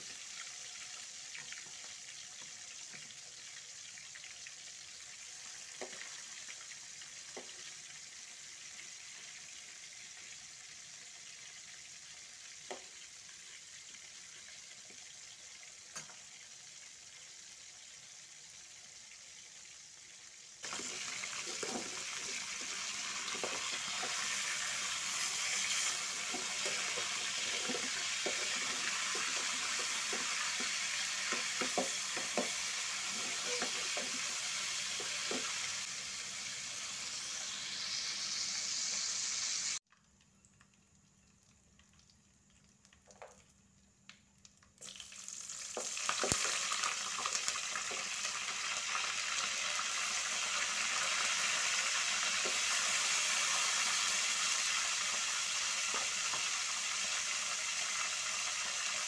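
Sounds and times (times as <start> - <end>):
chicken sizzling in hot oil: 0.0 - 40.0, 44.7 - 59.0.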